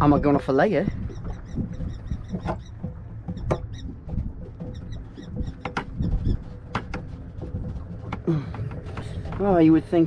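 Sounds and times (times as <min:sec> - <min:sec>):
hollow knocks and clatter: 0:01.0 - 0:09.8.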